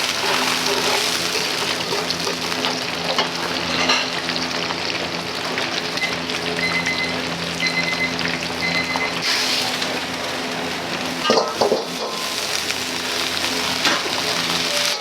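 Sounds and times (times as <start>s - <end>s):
food frying and sizzling: 0.0s - 15.0s.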